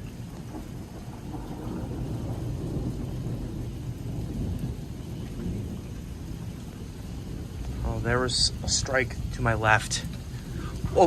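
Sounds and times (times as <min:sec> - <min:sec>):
heavy rain falling: 0:00.0 - 0:11.0
low rumble of thunder: 0:00.0 - 0:11.0.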